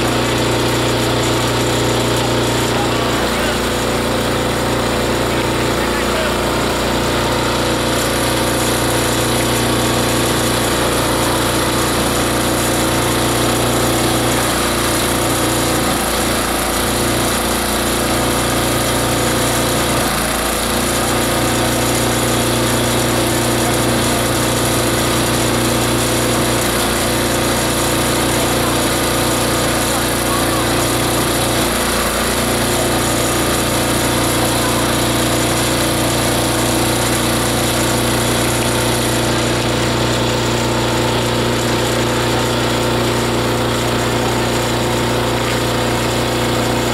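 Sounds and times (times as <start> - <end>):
shredder grinder droning: 0.0 - 46.9.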